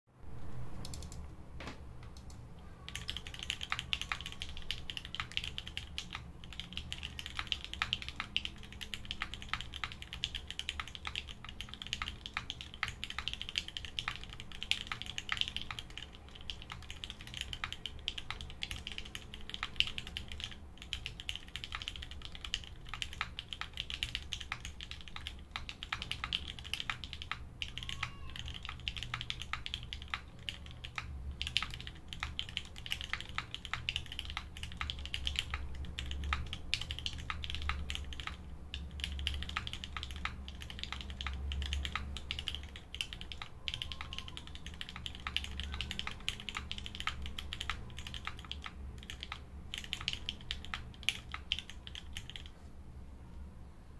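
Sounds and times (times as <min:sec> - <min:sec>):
mechanical keyboard typing: 0:00.8 - 0:01.2, 0:02.1 - 0:52.6.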